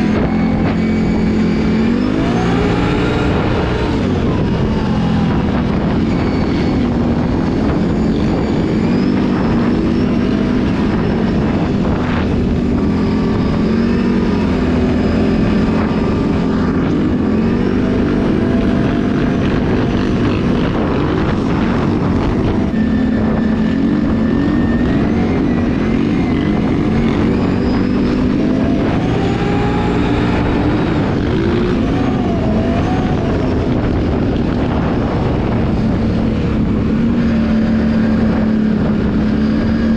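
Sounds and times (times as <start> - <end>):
atv engine revving: 0.0 - 39.9
steady rushing noise: 0.0 - 39.9.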